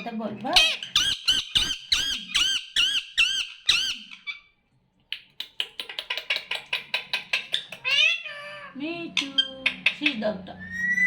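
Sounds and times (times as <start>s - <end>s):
parrot squawking: 0.0s - 4.5s, 5.9s - 11.0s.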